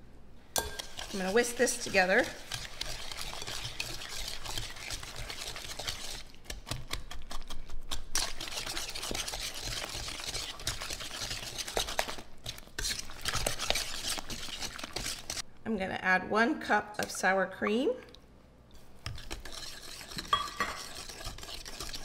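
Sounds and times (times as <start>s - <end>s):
whisk stirring batter in a bowl: 0.6s - 15.4s, 18.8s - 22.0s.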